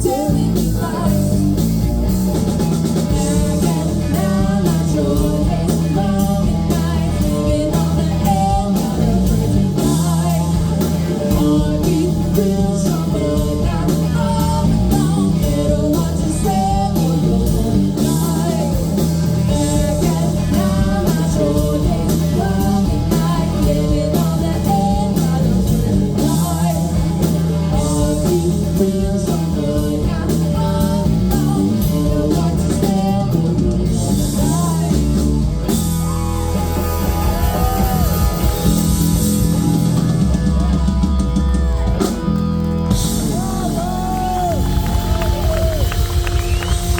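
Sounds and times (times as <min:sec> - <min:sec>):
bass guitar: 0:00.0 - 0:46.9
drums: 0:00.0 - 0:46.9
electric guitar lead: 0:00.0 - 0:46.9.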